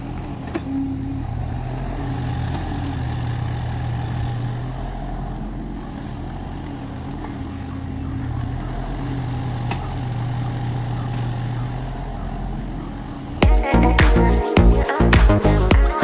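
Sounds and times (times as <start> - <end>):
diesel engine running: 0.0 - 15.8.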